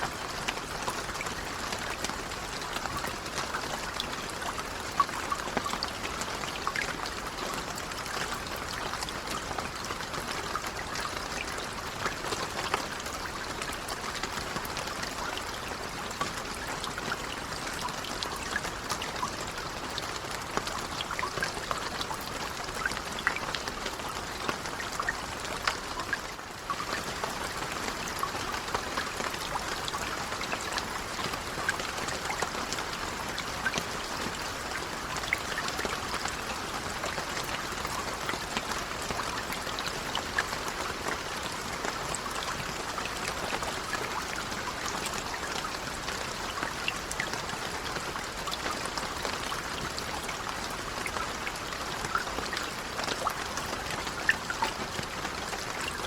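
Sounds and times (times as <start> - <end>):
gentle rain hissing: 0.0 - 56.0.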